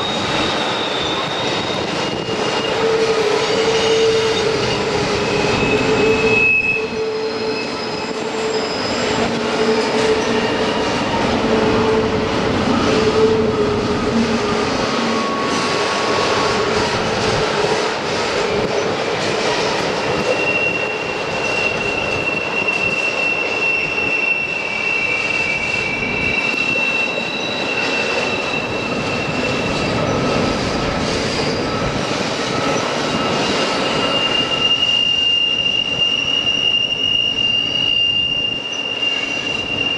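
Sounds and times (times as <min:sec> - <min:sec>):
train rumbling on rails: 0:00.0 - 0:39.9
train wheels squealing: 0:00.0 - 0:39.9.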